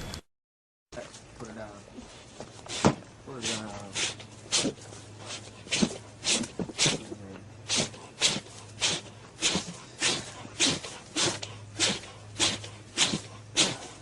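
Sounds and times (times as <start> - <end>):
goat snorting huffs: 2.7 - 14.0.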